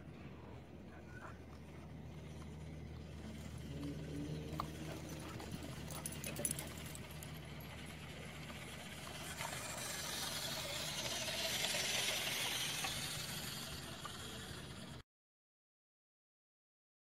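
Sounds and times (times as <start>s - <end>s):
toy truck motor whine: 1.0s - 15.0s.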